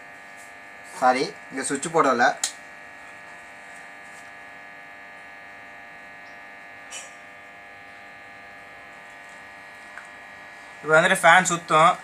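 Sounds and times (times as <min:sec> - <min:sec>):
computer fans whirring: 0:00.0 - 0:12.0.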